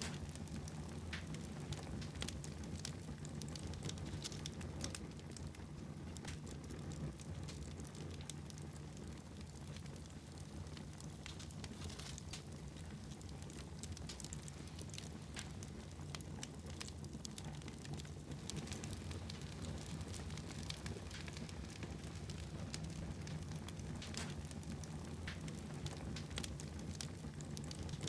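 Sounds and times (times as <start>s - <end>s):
fire crackling and popping: 0.0s - 28.0s
low fire rumble: 0.0s - 28.0s.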